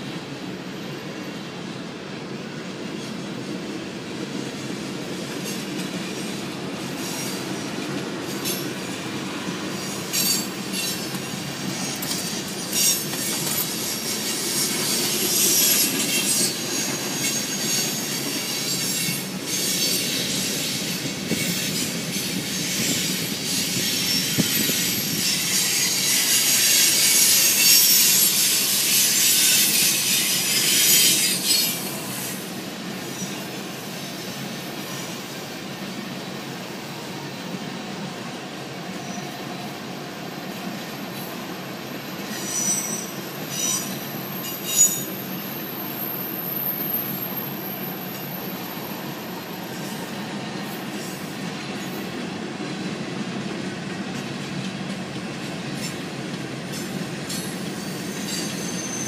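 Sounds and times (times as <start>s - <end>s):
freight train wheels rolling: 0.0s - 59.0s
train cars clanking: 2.4s - 59.0s.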